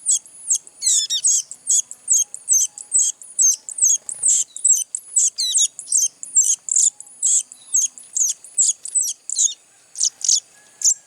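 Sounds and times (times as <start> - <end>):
young birds shrill chirping: 0.0 - 11.0.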